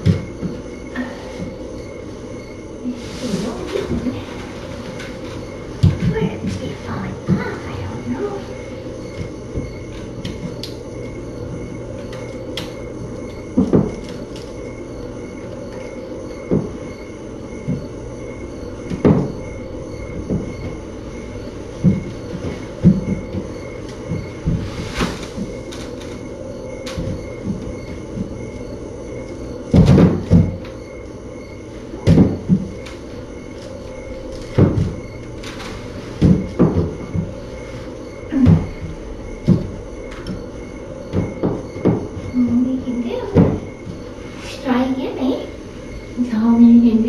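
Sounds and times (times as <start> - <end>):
knocks and bumps: 0.0 - 2.6, 3.4 - 14.5, 15.7 - 30.9, 31.5 - 44.2
steady low hum: 0.0 - 47.0.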